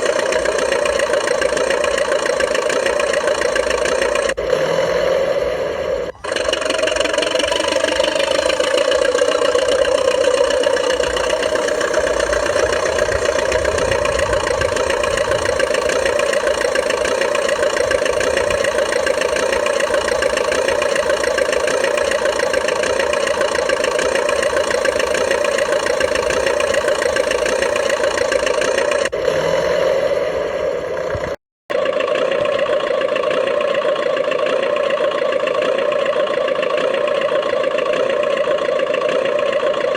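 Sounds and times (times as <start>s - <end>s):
model bulldozer mechanical drone: 0.0s - 39.9s.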